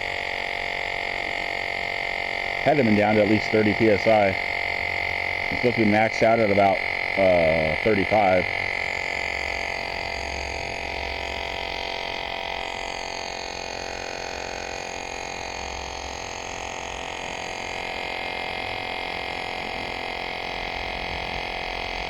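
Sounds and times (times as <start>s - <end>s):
electric tyre inflator buzzing: 0.0s - 22.0s.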